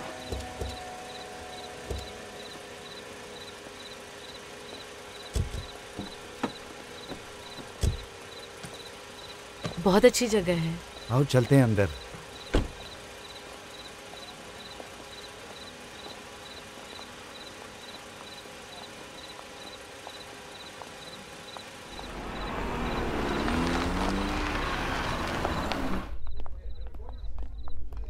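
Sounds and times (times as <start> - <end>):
cricket chirping: 0.6 - 9.8, 12.0 - 27.8.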